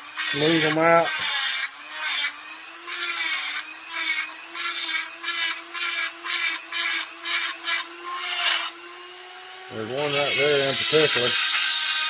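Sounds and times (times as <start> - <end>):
rotary grinder whining: 0.0 - 12.0.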